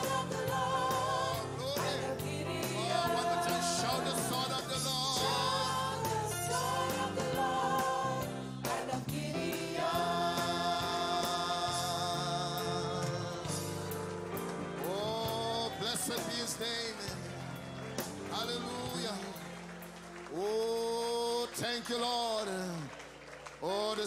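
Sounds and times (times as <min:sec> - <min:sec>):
gospel choir singing: 0:00.0 - 0:19.8
instrumental backing: 0:00.0 - 0:20.3.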